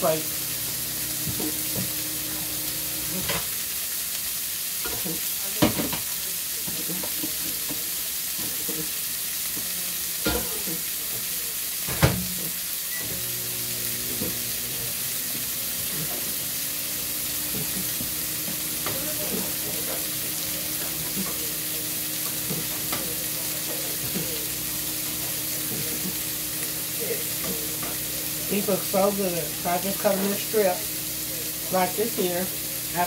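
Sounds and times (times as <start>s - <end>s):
steak sizzling in skillet: 0.0s - 33.0s.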